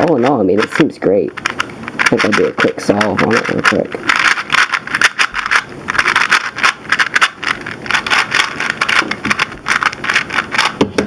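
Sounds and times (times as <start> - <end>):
plastic puzzle cube clicking: 0.0 - 11.0.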